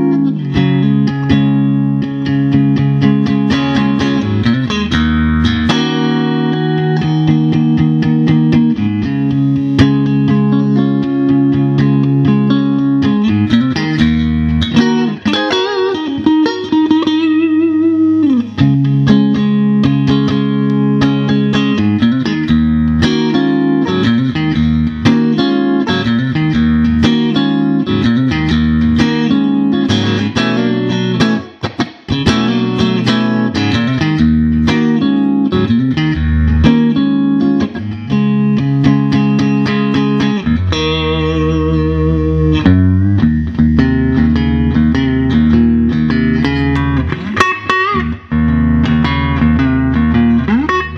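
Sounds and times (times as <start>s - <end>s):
electric guitar notes and chords: 0.0s - 50.9s.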